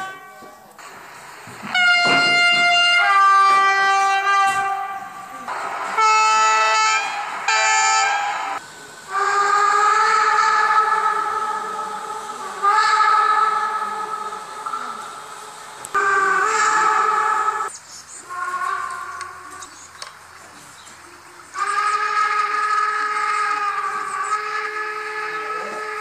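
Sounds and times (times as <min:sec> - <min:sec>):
train horn blasts: 0:00.0 - 0:19.8, 0:21.4 - 0:26.0.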